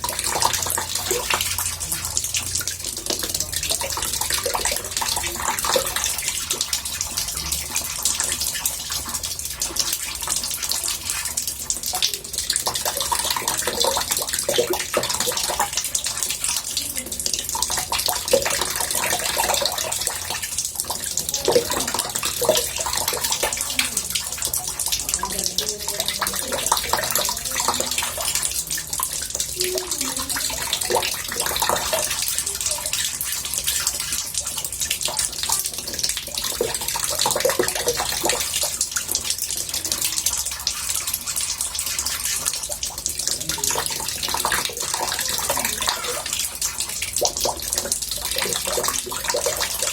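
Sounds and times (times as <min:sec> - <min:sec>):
tap water running into bathtub: 0:00.0 - 0:49.9.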